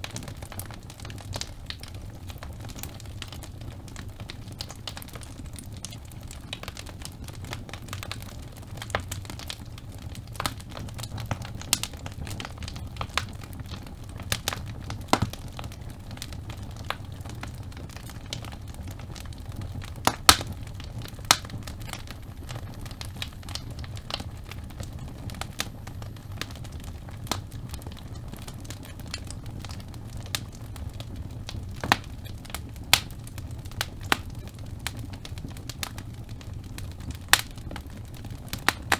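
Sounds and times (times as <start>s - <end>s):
logs crackling and popping: 0.0s - 38.9s
low rumble of flame: 0.0s - 38.9s.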